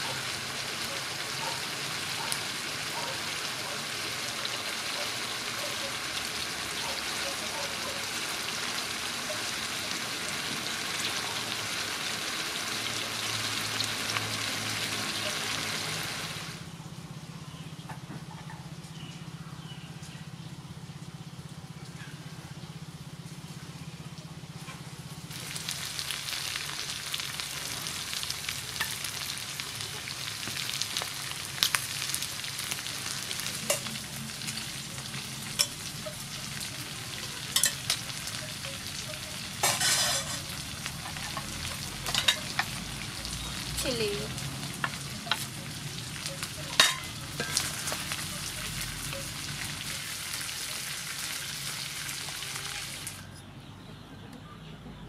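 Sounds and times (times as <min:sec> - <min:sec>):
chicken sizzling in a wok: 0:00.0 - 0:16.7, 0:22.8 - 0:53.3.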